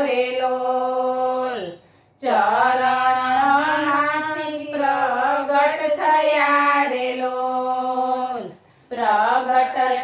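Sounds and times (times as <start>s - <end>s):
women singing devotional song: 0.0s - 10.0s.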